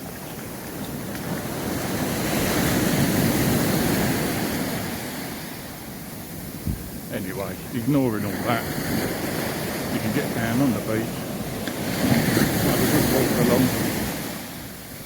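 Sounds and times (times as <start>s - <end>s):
sea waves breaking on beach: 0.0s - 15.0s.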